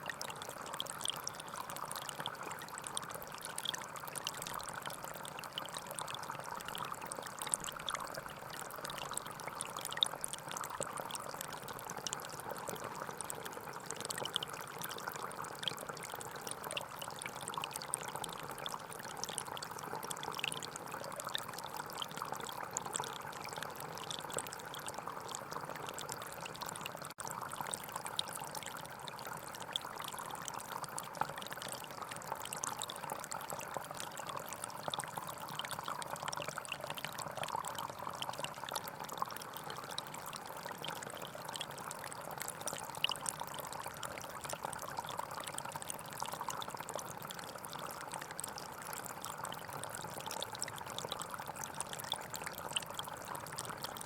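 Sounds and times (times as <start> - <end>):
stream trickling and splashing: 0.0 - 54.0.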